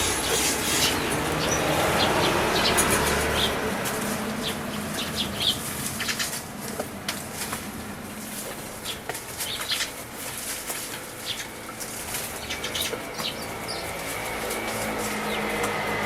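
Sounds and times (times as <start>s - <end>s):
passing vehicle engine: 0.0s - 9.0s, 11.6s - 16.0s
birds wing fluttering: 0.0s - 16.0s.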